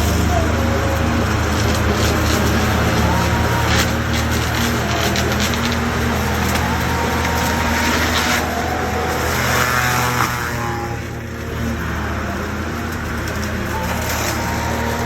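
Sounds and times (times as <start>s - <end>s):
diesel engine running: 0.0s - 15.0s
shredder grinding brush: 0.0s - 15.0s.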